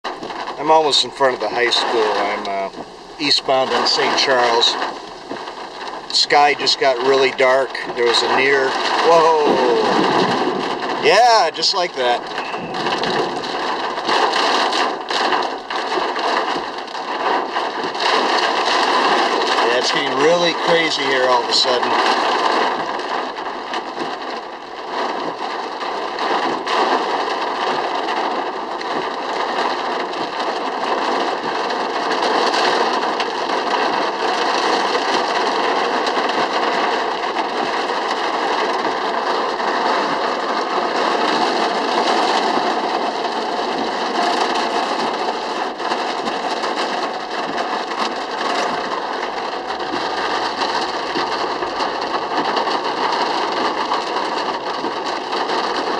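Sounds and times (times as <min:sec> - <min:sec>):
heavy rain on car roof: 0:00.0 - 0:55.9.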